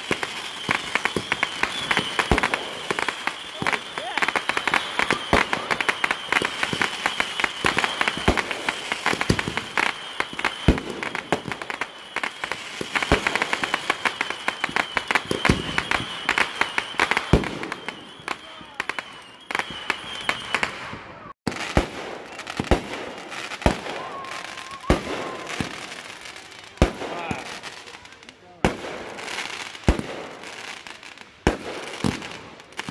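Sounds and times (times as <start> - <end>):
fireworks crackling and popping: 0.0 - 32.9.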